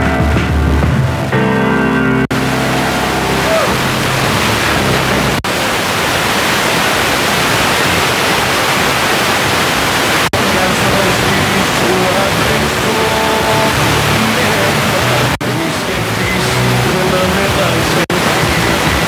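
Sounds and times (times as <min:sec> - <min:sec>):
faint weak radio station: 0:02.2 - 0:19.0
radio static hiss: 0:02.3 - 0:19.0.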